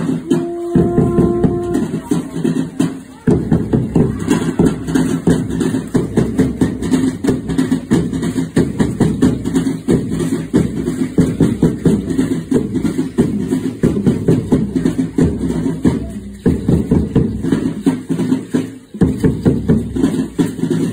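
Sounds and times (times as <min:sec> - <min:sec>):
drums beating fast rhythm: 0:00.0 - 0:20.9.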